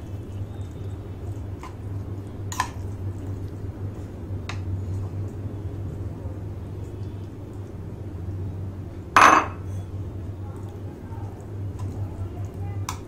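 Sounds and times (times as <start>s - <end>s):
spatula squishing food in bowl: 0.0s - 7.9s, 9.8s - 13.0s
steady low hum: 0.0s - 13.0s.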